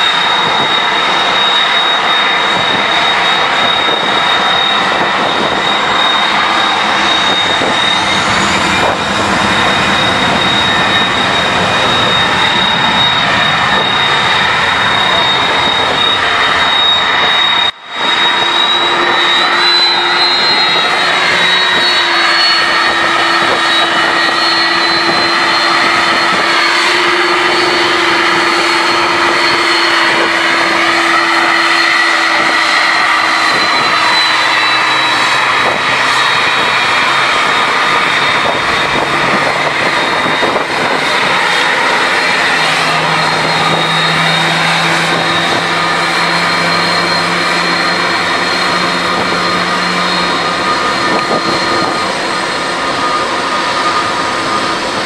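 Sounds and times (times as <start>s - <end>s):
jet engines taxiing: 0.0s - 55.0s.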